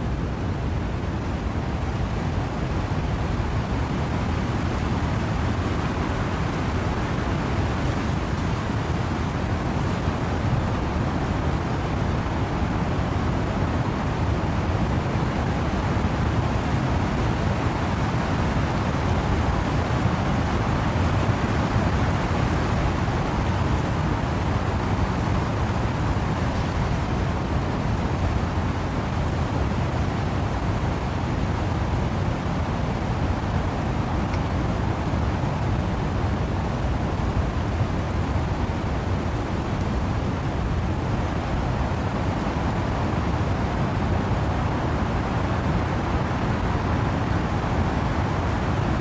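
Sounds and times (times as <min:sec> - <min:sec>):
wind and rain in trees: 0:00.0 - 0:49.0.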